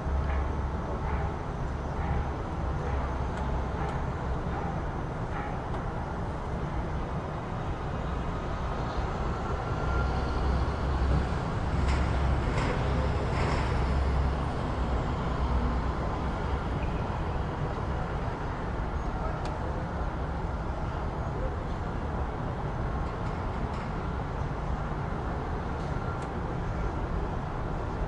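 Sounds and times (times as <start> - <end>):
steady traffic noise: 0.0 - 28.0.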